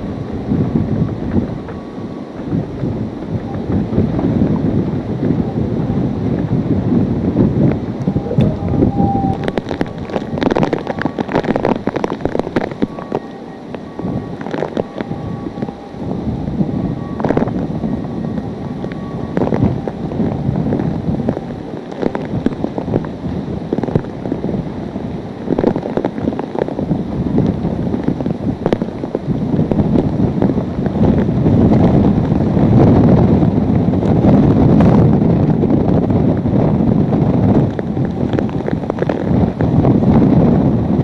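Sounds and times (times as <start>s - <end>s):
strong wind gusting on microphone: 0.0s - 41.0s.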